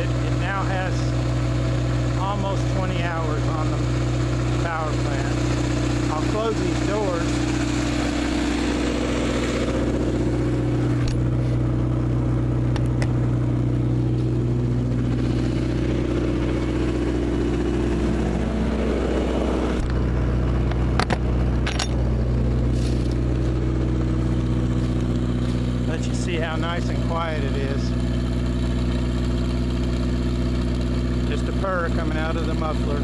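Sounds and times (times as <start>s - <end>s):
diesel generator running: 0.0s - 33.0s.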